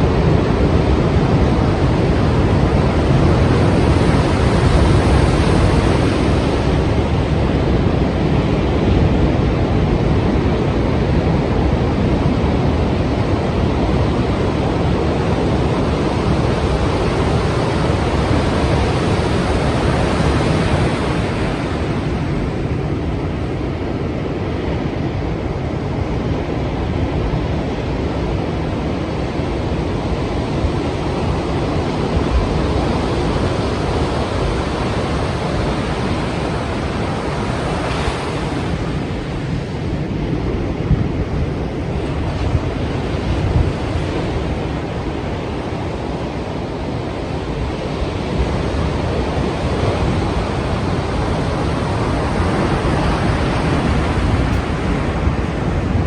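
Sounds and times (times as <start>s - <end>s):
sea waves and surf roaring: 0.0s - 56.0s
wind: 0.0s - 56.0s.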